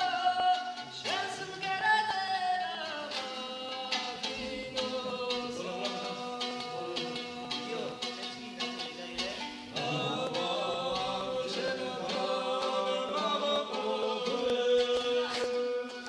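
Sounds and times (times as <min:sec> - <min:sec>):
man singing long notes: 0:00.0 - 0:16.0
strummed lute: 0:00.0 - 0:16.0.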